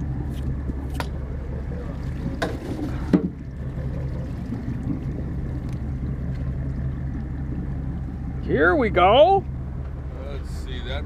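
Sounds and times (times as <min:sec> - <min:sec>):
boat diesel engine idling: 0:00.0 - 0:11.0.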